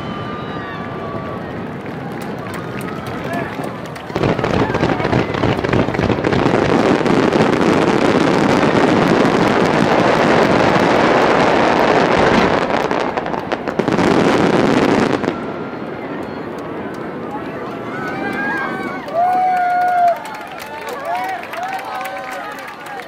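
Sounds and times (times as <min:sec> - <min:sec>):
firework bangs and crackles: 0:00.0 - 0:20.0.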